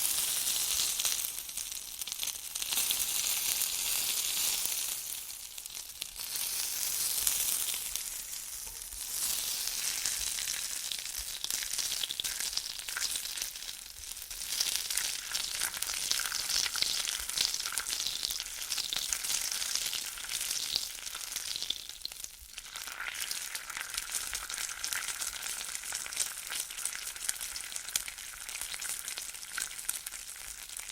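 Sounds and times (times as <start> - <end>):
bacon sizzling in a pan: 0.0 - 30.9.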